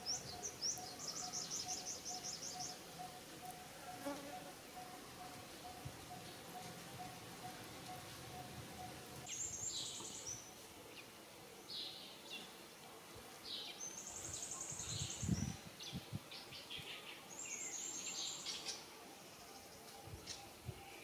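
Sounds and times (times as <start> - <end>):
birds chirping and trilling: 0.0 - 12.6, 13.5 - 21.0.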